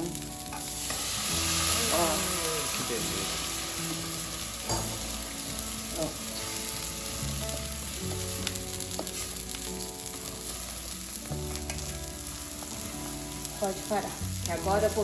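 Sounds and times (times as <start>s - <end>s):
rice sizzling in a pan: 0.0s - 15.0s
soft background music: 0.0s - 15.0s.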